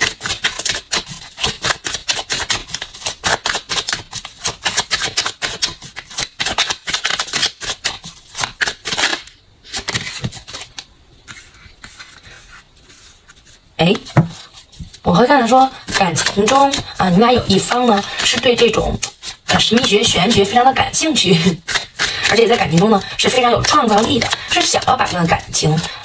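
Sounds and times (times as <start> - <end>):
cards being shuffled: 0.0 - 26.0.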